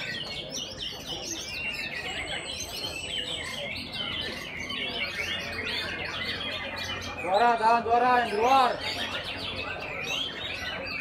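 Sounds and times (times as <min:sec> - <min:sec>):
chorus of birds singing: 0:00.0 - 0:11.0.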